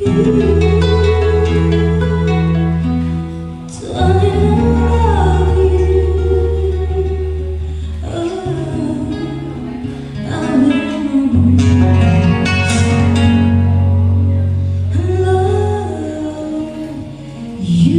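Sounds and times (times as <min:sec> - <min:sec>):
acoustic guitar: 0:00.0 - 0:17.9
person singing: 0:00.0 - 0:17.9
steady bass line: 0:00.0 - 0:17.9.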